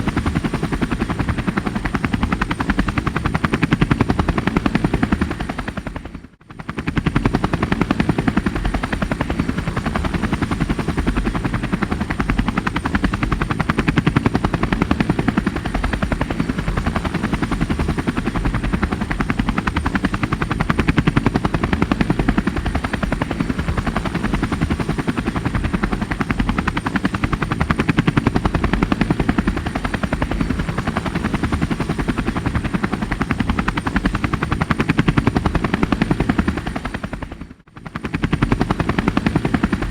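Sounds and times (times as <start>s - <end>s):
helicopter rotor blades chopping: 0.0s - 39.9s.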